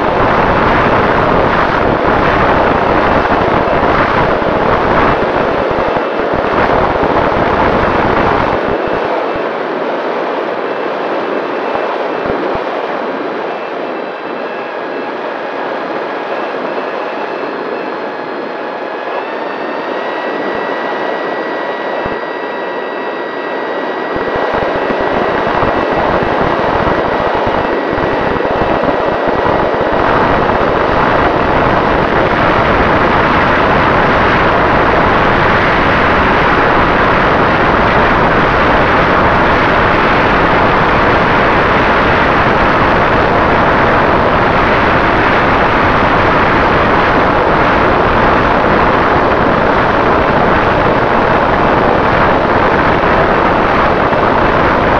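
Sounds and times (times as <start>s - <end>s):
electric motor and propeller whining: 0.0s - 54.9s
wind rush on microphone: 0.0s - 54.9s.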